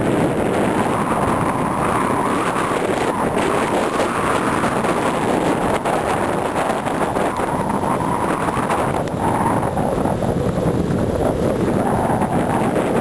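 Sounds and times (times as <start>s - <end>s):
vehicle driving on dirt track: 0.0s - 13.0s
wind buffeting microphone: 0.0s - 13.0s.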